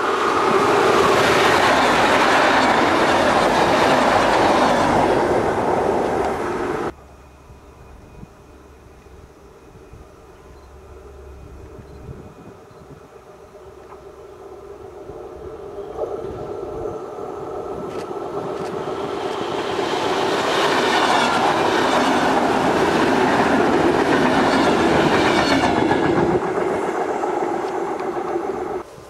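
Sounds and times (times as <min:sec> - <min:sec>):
electric train passing: 0:00.0 - 0:29.0
wheel and rail noise: 0:00.0 - 0:29.0.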